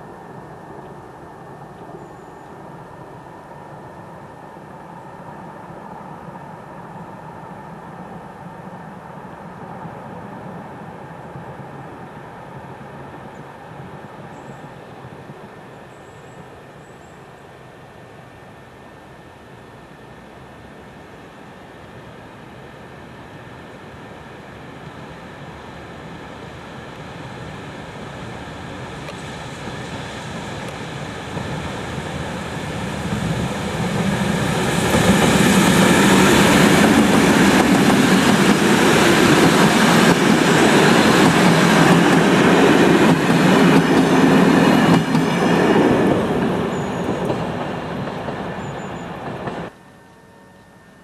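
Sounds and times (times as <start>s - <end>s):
train passing close by: 0.0s - 51.0s.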